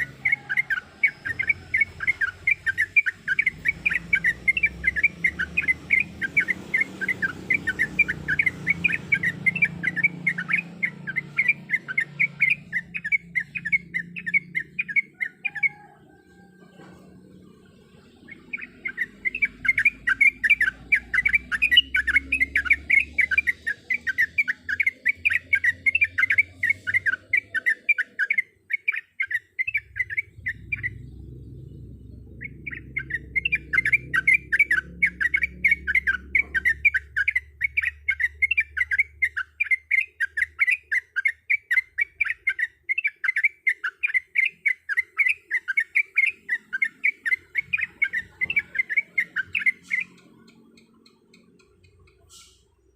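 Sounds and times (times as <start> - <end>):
bird singing chattering notes: 0.0 - 52.9.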